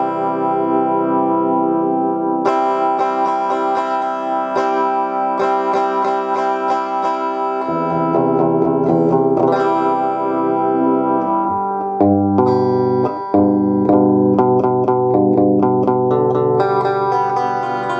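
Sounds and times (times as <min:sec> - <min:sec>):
electric guitar strummed and picked: 0:00.0 - 0:17.9.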